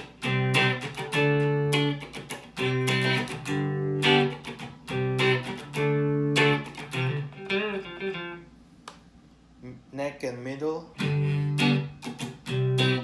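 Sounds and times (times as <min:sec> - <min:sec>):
clean electric guitar strumming chords: 0:00.0 - 0:08.5, 0:11.0 - 0:13.0.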